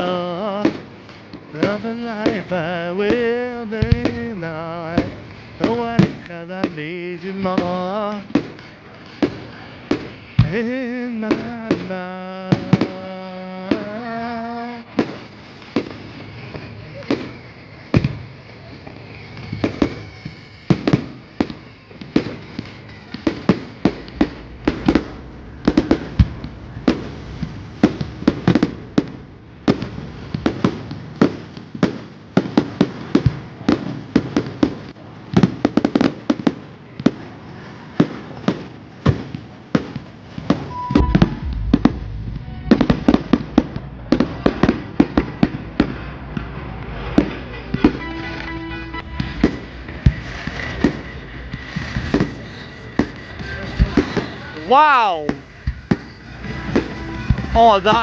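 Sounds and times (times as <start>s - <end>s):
fireworks bangs and cracks: 0.0s - 58.0s.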